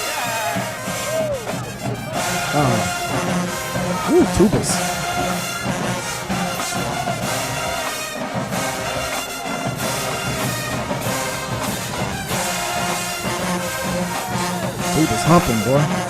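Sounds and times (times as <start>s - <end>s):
marching band brass playing: 0.0s - 16.0s
tubas playing low part: 1.8s - 16.0s.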